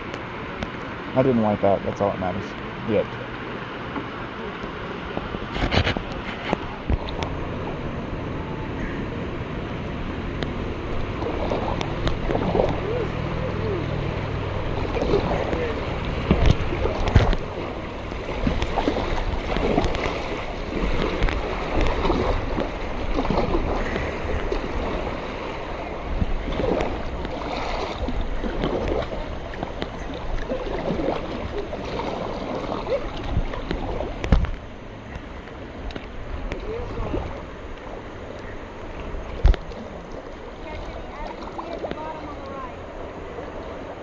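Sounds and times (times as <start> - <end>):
paddle strokes splashing: 0.0 - 44.0
river water rushing: 0.0 - 44.0.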